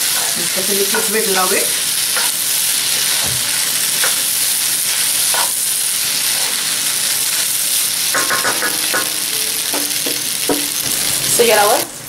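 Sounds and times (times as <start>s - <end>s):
pasta sizzling: 0.0s - 12.0s.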